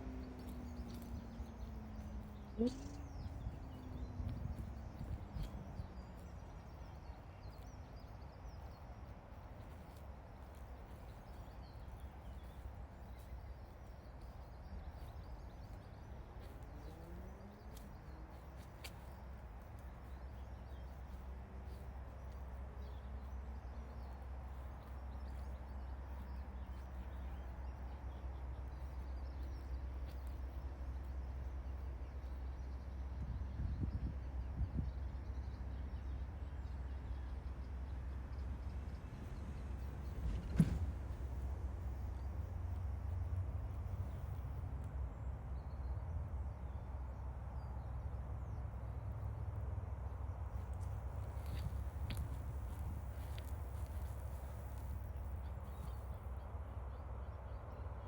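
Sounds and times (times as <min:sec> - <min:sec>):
distant road traffic: 0:00.0 - 0:58.0.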